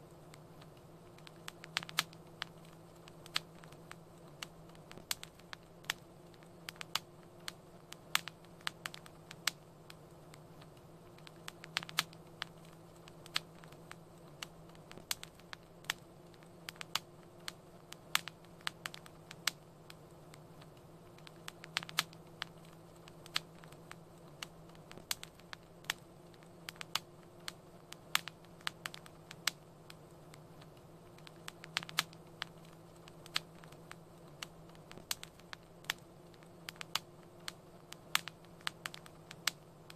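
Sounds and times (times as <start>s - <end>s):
low steady hum: 0.0s - 39.9s
wood fire crackling: 0.0s - 39.9s.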